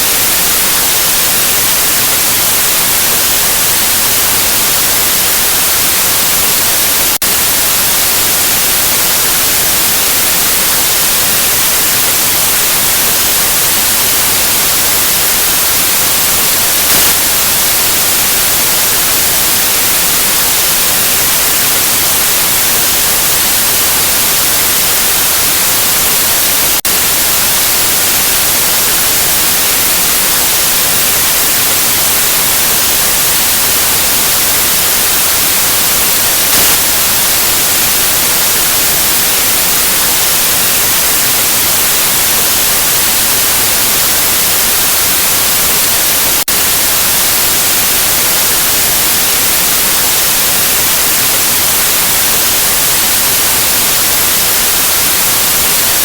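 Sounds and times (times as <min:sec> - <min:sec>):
white noise static: 0:00.0 - 0:56.0.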